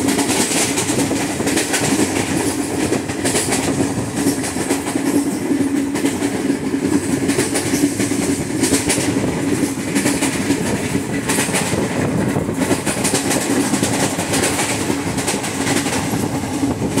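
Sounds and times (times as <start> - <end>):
flat wheel pounding: 0.0 - 17.0
train wheels rumbling on track: 0.0 - 17.0.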